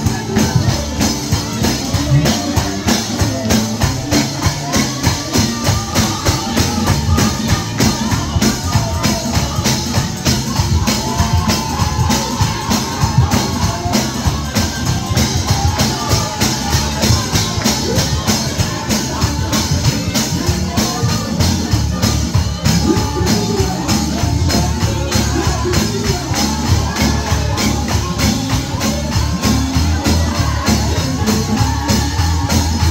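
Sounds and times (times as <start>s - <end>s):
live gospel band: 0.0s - 32.9s
person singing: 0.0s - 32.9s
tambourine and drums beat: 0.0s - 32.9s.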